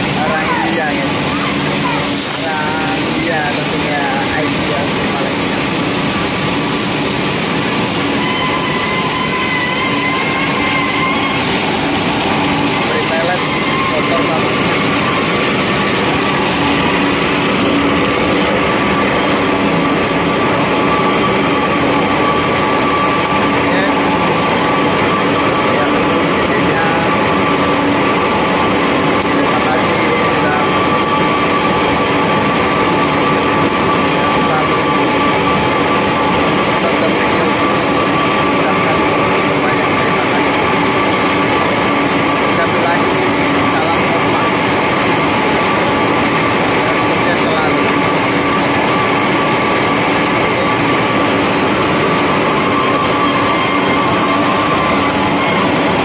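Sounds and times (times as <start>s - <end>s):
industrial machinery din: 0.0s - 56.0s
pellet mills running: 0.0s - 56.0s.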